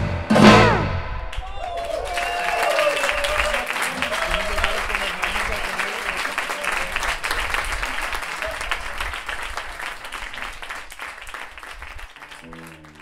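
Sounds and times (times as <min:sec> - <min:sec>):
audience applauding: 0:01.3 - 0:13.0.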